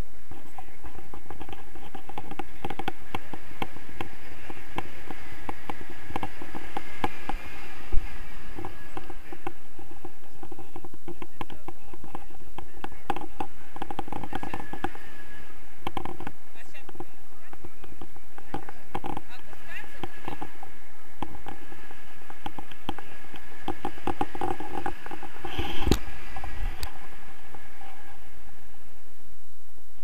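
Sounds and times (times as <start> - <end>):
wind rushing over camera: 0.0 - 30.0.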